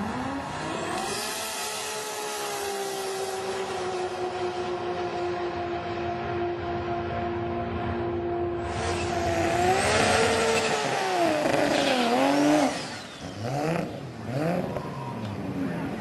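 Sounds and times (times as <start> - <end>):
car engine revving: 0.0 - 15.1.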